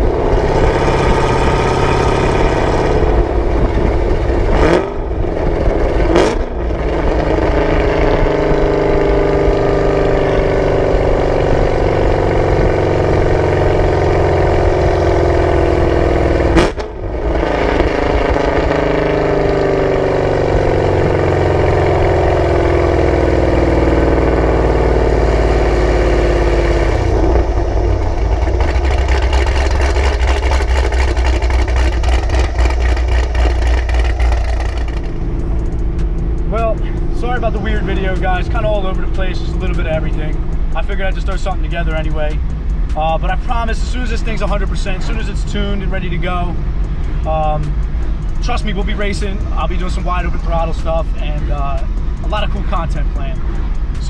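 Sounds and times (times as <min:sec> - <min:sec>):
car engine and exhaust running: 0:00.0 - 0:54.0.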